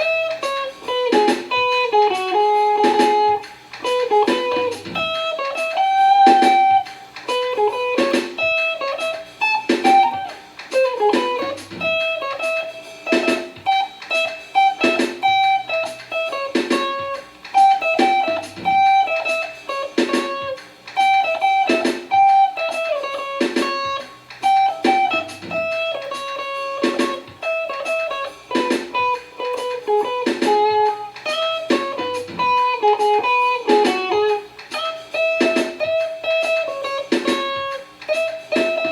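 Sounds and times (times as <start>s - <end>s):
guitar plucking notes and chords: 0.0s - 38.9s.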